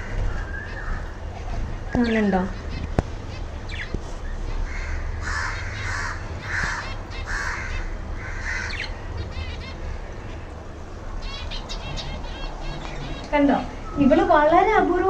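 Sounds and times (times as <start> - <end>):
harsh raspy bird calls: 0.0 - 13.8.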